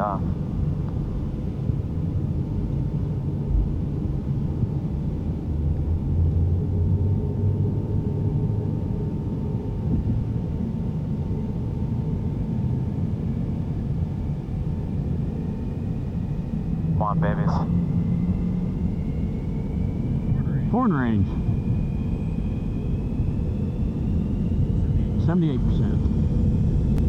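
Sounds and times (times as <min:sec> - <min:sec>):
jet engines spooling up: 0:00.4 - 0:27.0.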